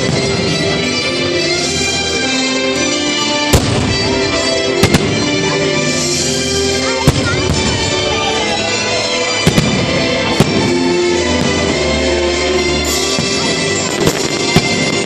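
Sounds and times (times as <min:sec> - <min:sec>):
firework bangs: 0:00.0 - 0:02.0, 0:02.7 - 0:15.0
music: 0:00.0 - 0:15.0.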